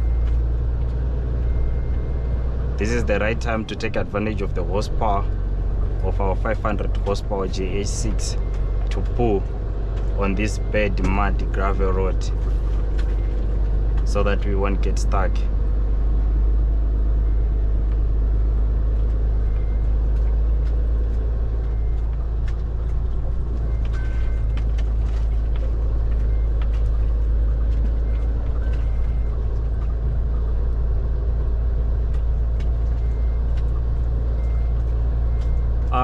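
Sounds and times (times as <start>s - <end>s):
truck diesel engine droning: 0.0s - 36.0s.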